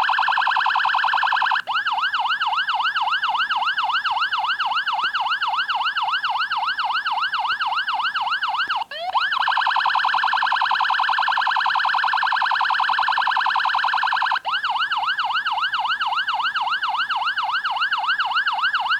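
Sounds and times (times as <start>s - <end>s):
electronic police siren: 0.0s - 18.9s.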